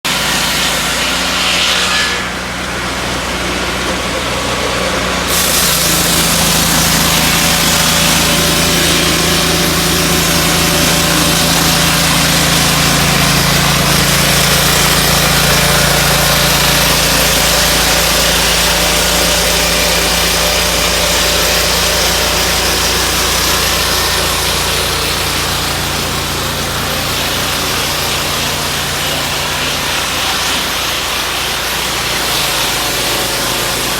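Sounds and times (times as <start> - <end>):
saw blade cutting wood: 0.0 - 33.9
petrol engine running: 2.3 - 33.9.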